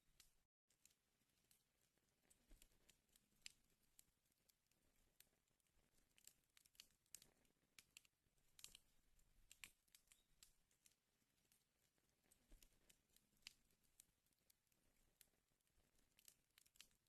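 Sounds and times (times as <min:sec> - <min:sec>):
wood fire crackling and popping: 0:01.4 - 0:17.0.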